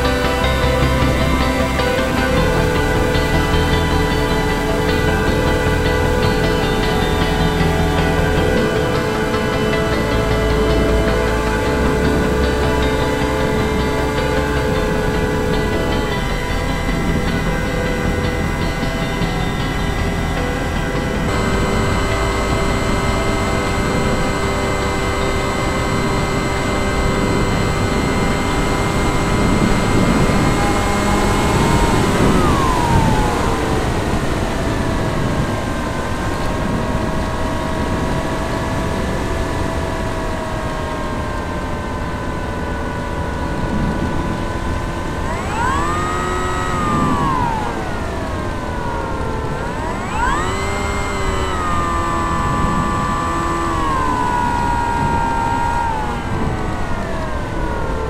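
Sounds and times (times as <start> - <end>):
electric motor whine: 0.0 - 58.0
rush of wind: 0.0 - 58.0.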